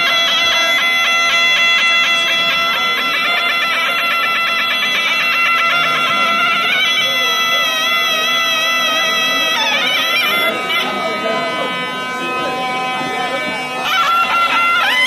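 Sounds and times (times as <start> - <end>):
reedy pipe melody over drone: 0.0 - 15.0.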